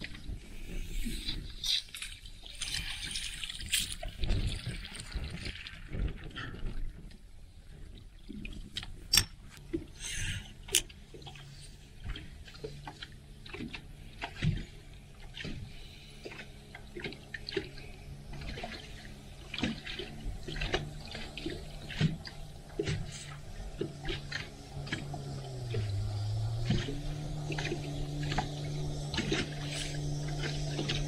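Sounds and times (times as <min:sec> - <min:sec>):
low steady hum: 0:00.0 - 0:31.0
water lapping against boat hull: 0:00.0 - 0:31.0.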